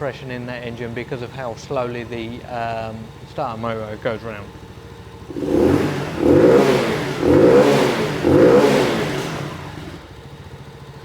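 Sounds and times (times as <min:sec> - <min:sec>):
motorbike engine revving from idle: 0:00.0 - 0:11.0.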